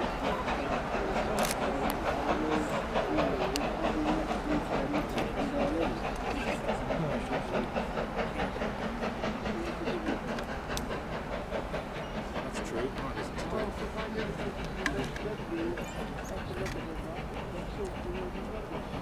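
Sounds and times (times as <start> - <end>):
train rumble: 0.0 - 19.0
train wheels clicking over rail joints: 0.0 - 19.0.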